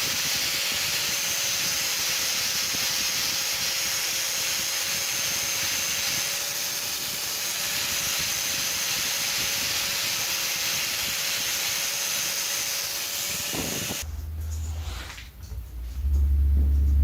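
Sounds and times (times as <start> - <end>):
workshop tool hissing: 0.0 - 14.0.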